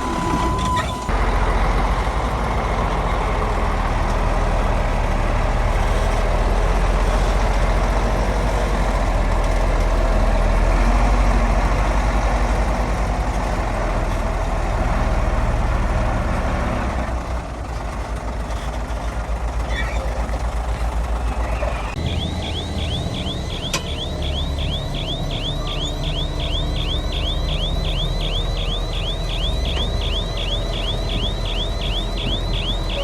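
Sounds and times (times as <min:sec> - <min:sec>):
heavy diesel engine rumbling: 0:00.0 - 0:33.0.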